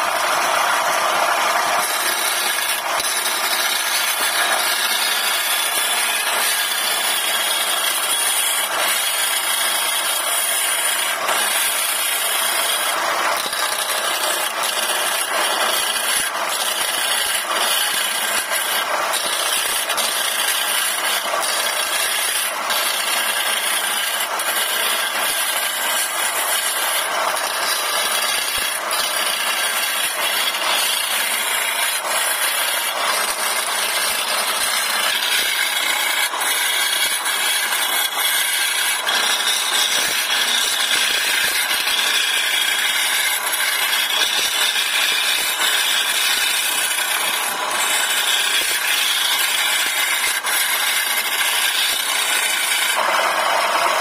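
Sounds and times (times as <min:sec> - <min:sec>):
lathe chisel scraping wood: 0:00.0 - 0:54.0.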